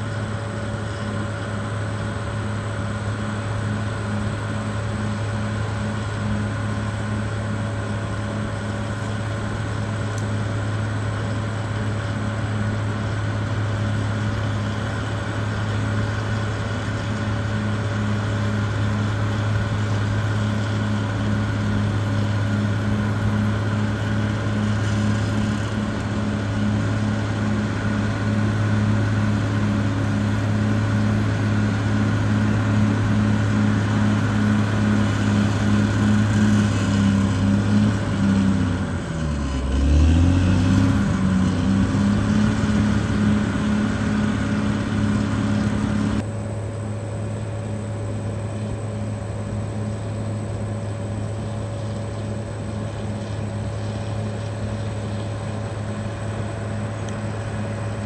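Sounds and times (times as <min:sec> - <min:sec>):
bulldozer diesel engine droning: 0:00.0 - 0:58.0.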